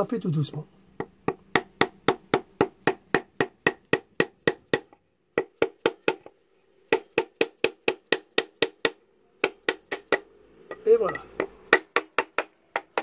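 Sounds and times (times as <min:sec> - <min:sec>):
hammer tapping on metal disc: 0:01.0 - 0:06.3, 0:06.9 - 0:13.0.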